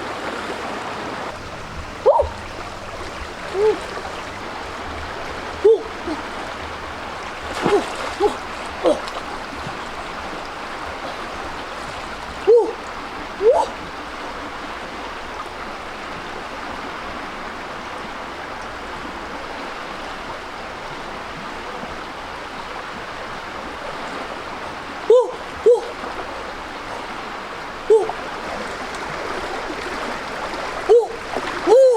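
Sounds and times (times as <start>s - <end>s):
stream water running: 0.0s - 31.9s.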